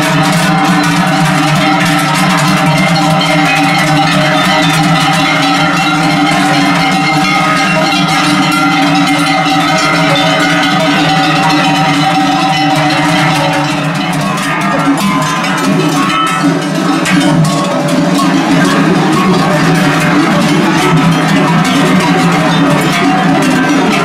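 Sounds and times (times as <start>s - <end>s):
cowbells jangling: 0.0s - 24.0s.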